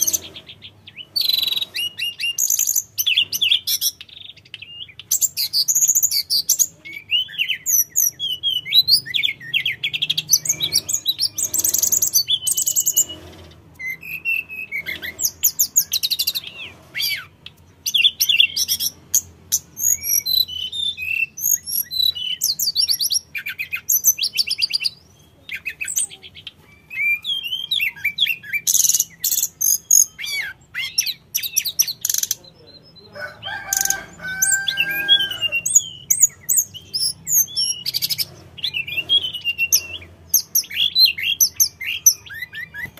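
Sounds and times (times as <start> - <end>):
flycatcher singing: 0.0 - 42.9.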